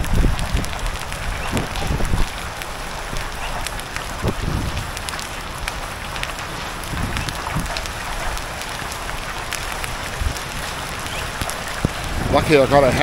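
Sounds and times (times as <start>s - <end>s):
hailstones ticking: 0.0s - 13.0s
rain hissing: 0.0s - 13.0s.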